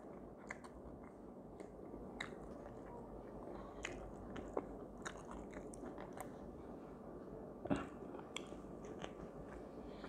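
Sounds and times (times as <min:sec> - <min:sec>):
person chewing food: 0:00.0 - 0:06.5, 0:07.6 - 0:10.0.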